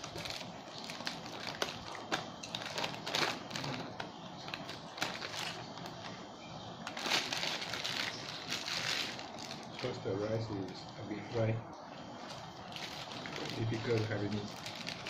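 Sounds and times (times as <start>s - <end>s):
plastic bag crinkling: 0.0s - 6.2s, 6.8s - 11.0s, 12.2s - 15.0s
small clicks and crackles: 0.0s - 6.2s, 6.8s - 11.0s, 12.2s - 15.0s.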